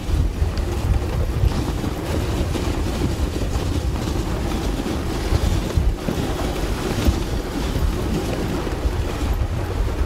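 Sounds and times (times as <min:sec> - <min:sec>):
dog sled gliding over snow: 0:00.0 - 0:10.0
wind buffeting microphone: 0:00.0 - 0:10.0.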